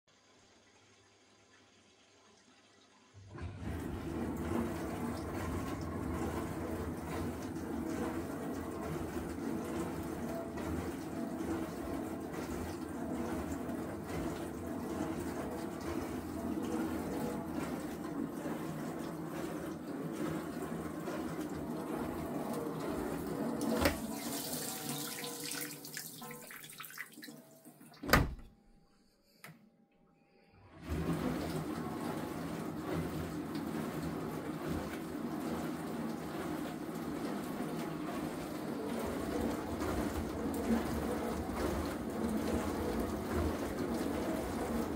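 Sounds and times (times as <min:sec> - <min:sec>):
dishwasher water rushing: 0:00.1 - 0:28.4, 0:30.6 - 0:44.9.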